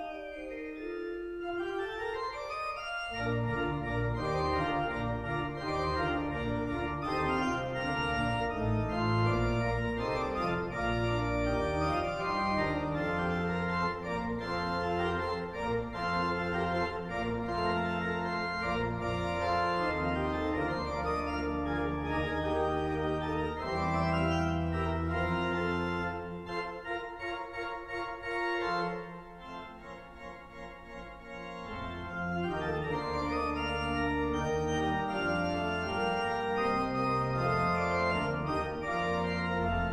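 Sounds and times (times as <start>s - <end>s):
pipe organ playing chords: 0.0s - 39.9s.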